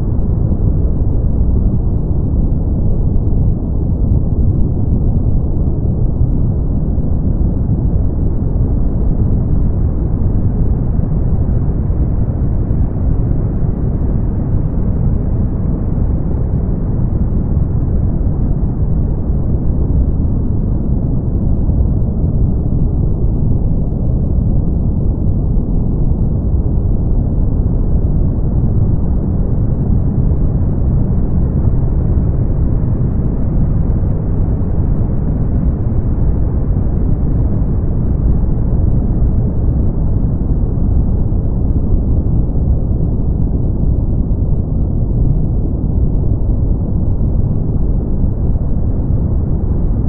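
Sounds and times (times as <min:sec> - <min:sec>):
brown noise rumbling hiss: 0:00.0 - 0:50.0.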